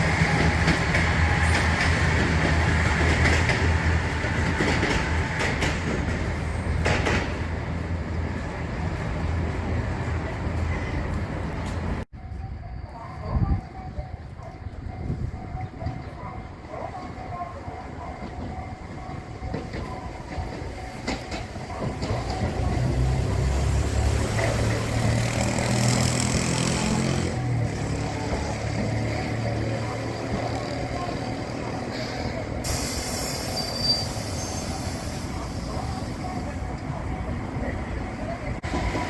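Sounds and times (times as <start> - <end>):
wheels squealing on rails: 0.0 - 7.4, 8.3 - 39.0
train running on rails: 0.0 - 39.0.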